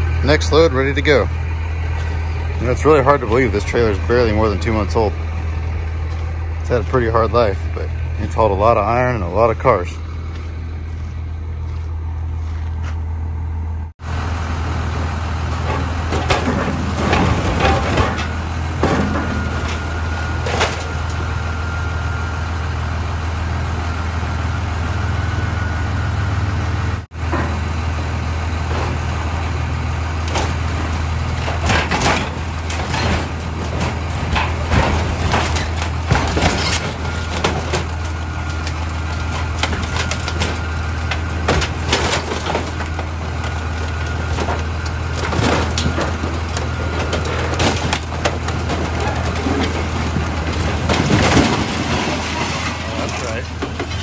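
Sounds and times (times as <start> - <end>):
trailer clanking and rattling: 0.0 - 54.0
truck engine running: 0.0 - 54.0.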